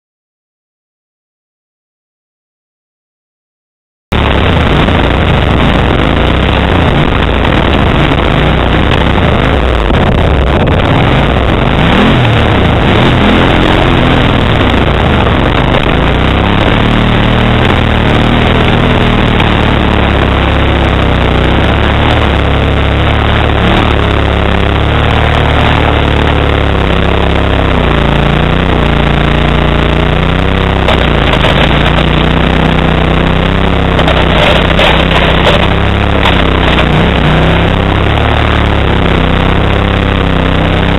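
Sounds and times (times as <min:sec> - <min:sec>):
motorcycle engine revving: 0:04.1 - 0:40.9.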